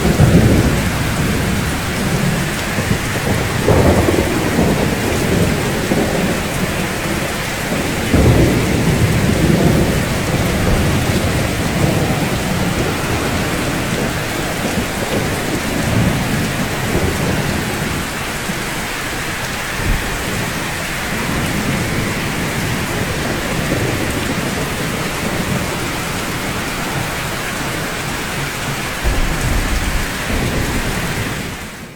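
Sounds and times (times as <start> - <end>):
low rolling thunder: 0.0 - 31.9
steady rainfall: 0.0 - 31.9.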